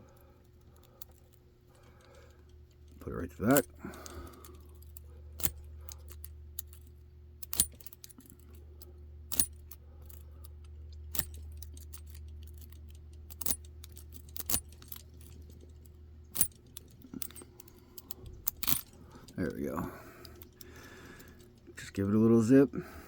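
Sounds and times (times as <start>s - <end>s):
lock picks clicking in a lock: 0.1s - 19.6s, 20.2s - 21.7s.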